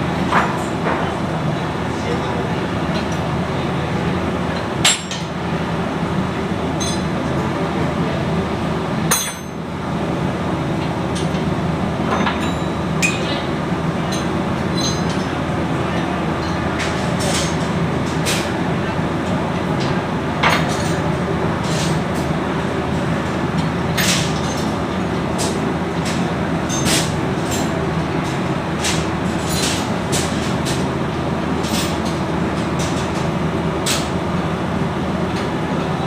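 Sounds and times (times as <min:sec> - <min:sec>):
loud machinery drone: 0:00.0 - 0:36.0.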